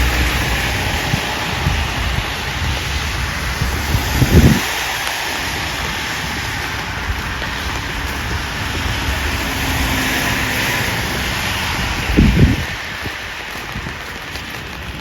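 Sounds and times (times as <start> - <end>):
rain hissing: 0.0 - 15.0
wet street noise: 0.0 - 15.0
wind buffeting microphone: 0.0 - 15.0.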